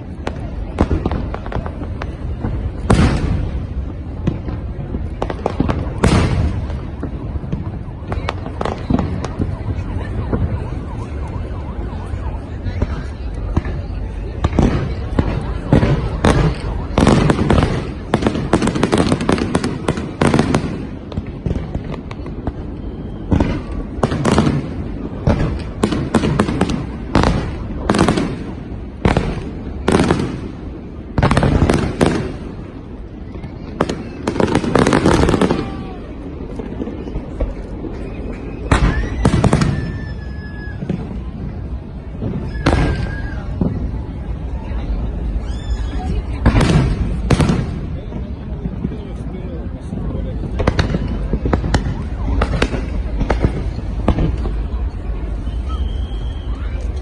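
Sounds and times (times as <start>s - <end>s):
fireworks booming: 0.0s - 57.0s
fireworks crackling pops: 0.0s - 57.0s.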